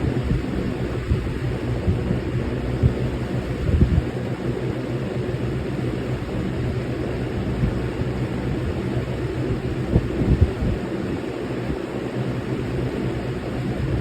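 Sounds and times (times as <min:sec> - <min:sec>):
fan motor hum: 0:00.0 - 0:14.0
rush of moving air: 0:00.0 - 0:14.0.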